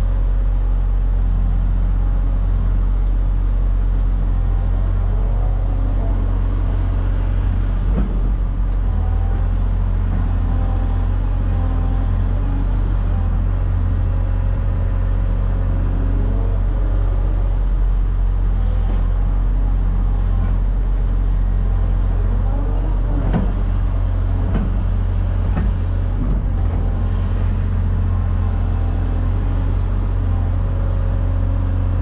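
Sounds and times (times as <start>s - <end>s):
heavy engine rumbling: 0.0s - 32.0s.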